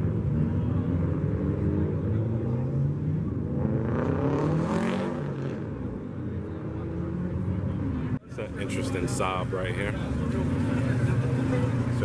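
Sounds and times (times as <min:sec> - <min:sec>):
exhaust and road noise: 0:00.0 - 0:12.0.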